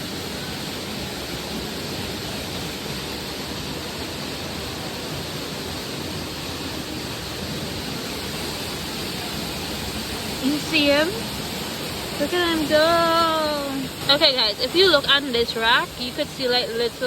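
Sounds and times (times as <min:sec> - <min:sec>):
waterfall pouring into pool: 0:00.0 - 0:17.0.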